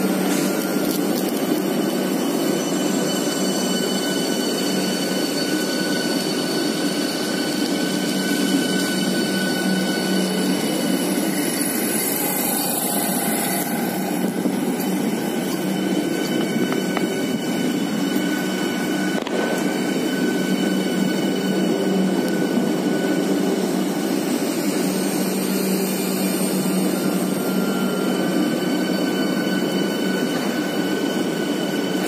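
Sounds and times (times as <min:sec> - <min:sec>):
electric train rolling on rails: 0:00.0 - 0:32.0.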